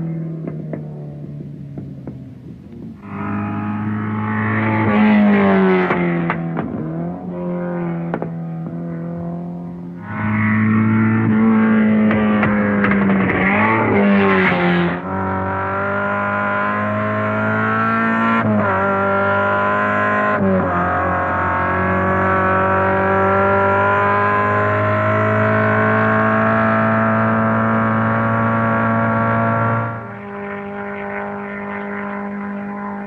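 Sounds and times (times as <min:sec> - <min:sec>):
racing car engine accelerating: 0:00.0 - 0:33.0.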